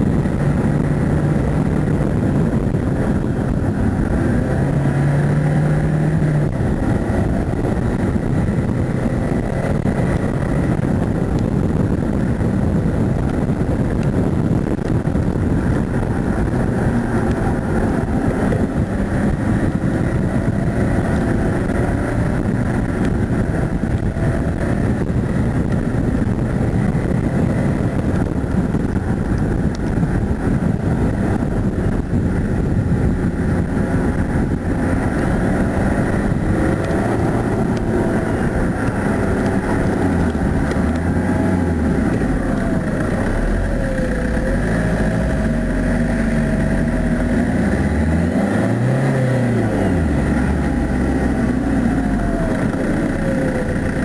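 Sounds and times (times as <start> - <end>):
car engine running hard: 0.0 - 54.0
road and wind noise: 0.0 - 54.0.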